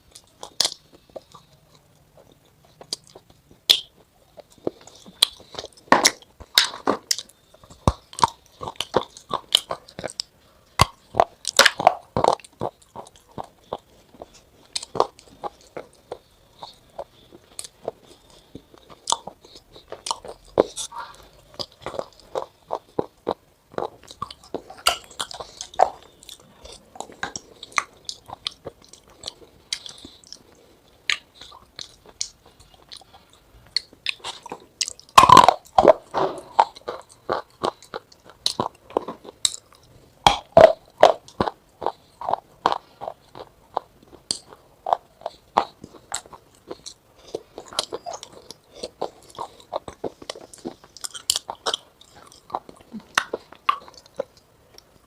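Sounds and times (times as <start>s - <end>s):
crisp crunching and snapping: 2.7s - 55.0s.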